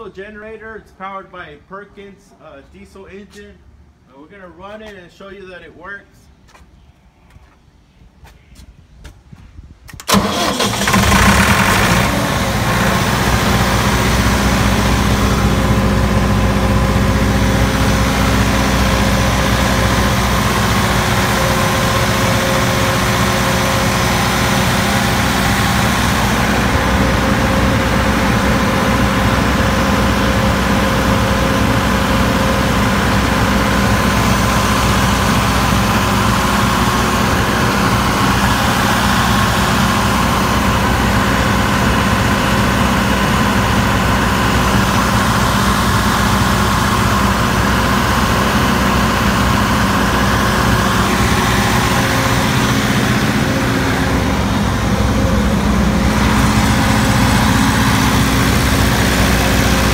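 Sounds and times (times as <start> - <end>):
diesel generator engine starting: 9.9 - 59.9.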